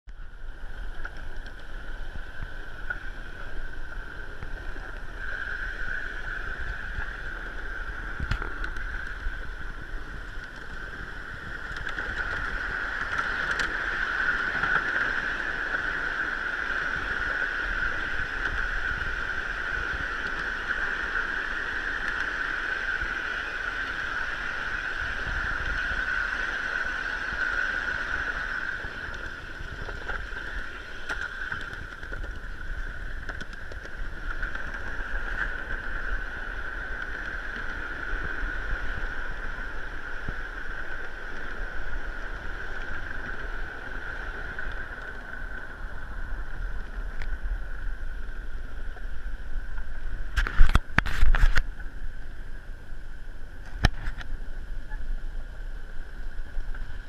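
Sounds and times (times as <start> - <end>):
miniature train rolling on track: 0.5 - 49.1.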